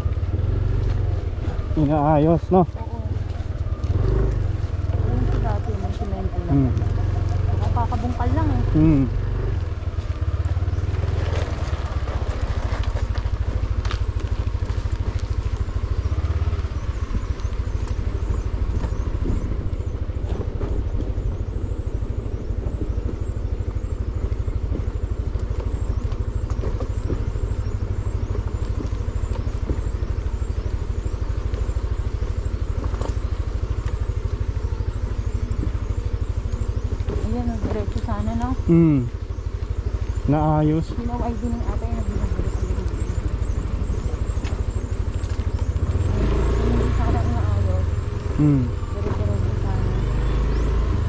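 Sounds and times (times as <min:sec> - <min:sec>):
motor scooter engine rumbling: 0:00.0 - 0:51.0.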